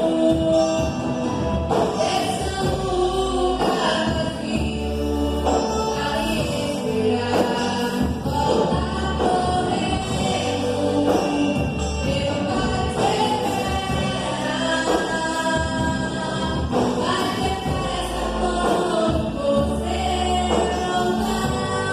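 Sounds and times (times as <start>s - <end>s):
gospel band: 0.0s - 21.9s
voices singing together: 1.8s - 21.9s.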